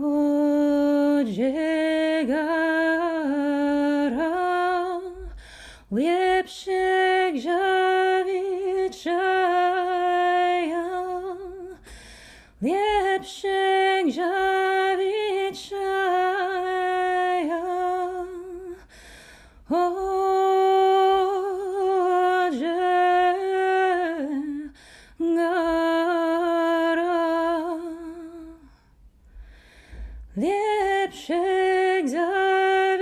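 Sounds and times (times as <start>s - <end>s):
woman singing unaccompanied: 0.0s - 11.8s, 12.6s - 18.9s, 19.7s - 28.7s, 30.4s - 33.0s.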